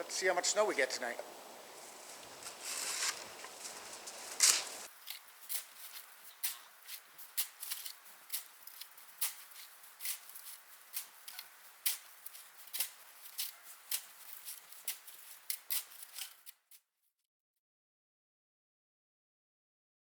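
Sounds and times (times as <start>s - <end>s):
footsteps crunching in snow: 0.0s - 16.8s.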